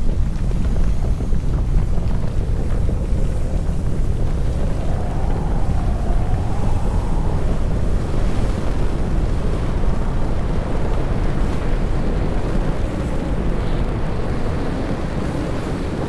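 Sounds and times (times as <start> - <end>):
deep earth rumble: 0.0 - 16.0
wind: 0.0 - 16.0
surf-like noise: 0.8 - 16.0.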